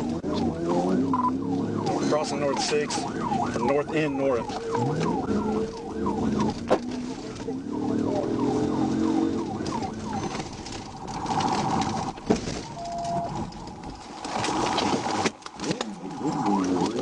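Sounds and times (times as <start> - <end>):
police siren yelping: 0.0 - 13.8.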